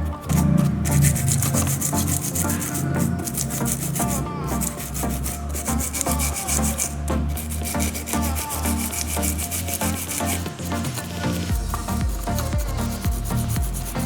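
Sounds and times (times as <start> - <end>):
sandpaper rubbing: 0.2 - 14.0.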